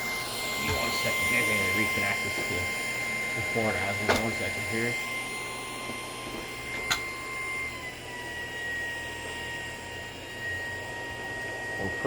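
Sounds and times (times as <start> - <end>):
vacuum motor whine: 0.0 - 12.0.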